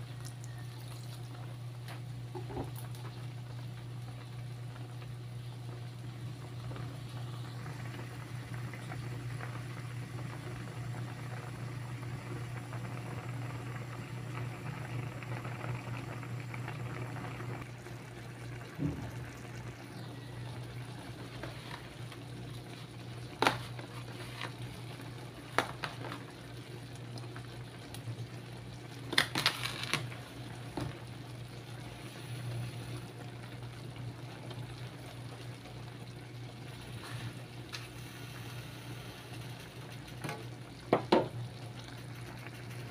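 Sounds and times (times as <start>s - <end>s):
sauce bubbling in a wok: 0.0s - 42.9s.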